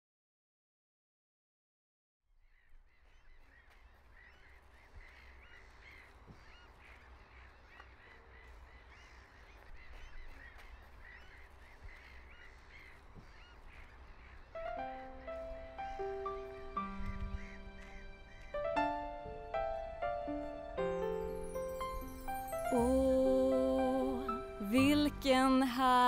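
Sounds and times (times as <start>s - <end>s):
birds calling: 2.4s - 26.0s.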